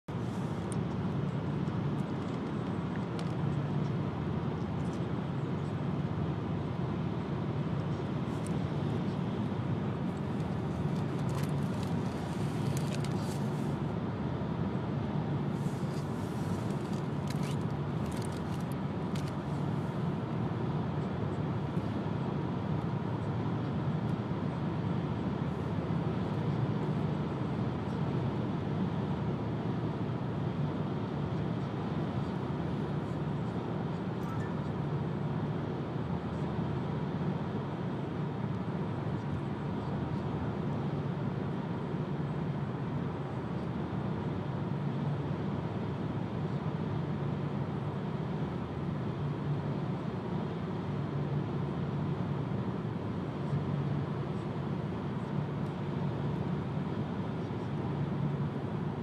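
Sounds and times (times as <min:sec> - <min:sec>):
car road and engine noise: 0:00.1 - 0:59.0.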